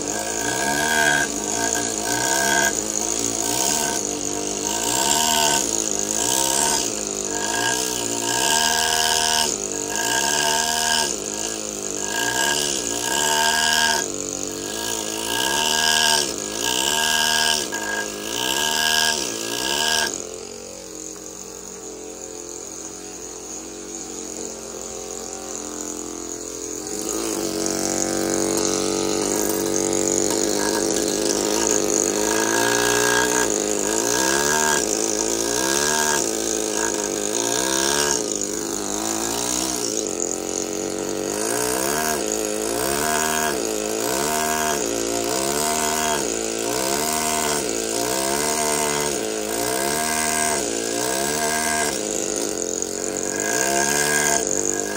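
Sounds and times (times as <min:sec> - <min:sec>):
pneumatic hammer chiseling marble: 0:00.0 - 0:54.9.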